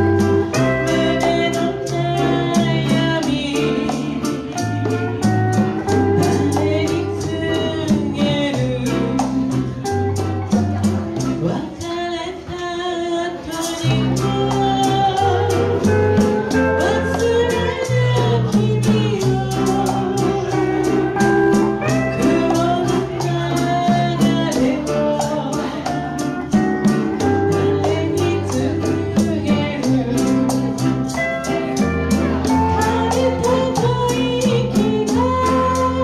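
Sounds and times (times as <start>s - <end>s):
woman singing: 0.0s - 10.0s, 11.3s - 36.0s
bass line: 0.0s - 12.0s, 13.8s - 36.0s
congas: 0.0s - 36.0s
guitar: 0.0s - 36.0s
maracas: 0.0s - 36.0s.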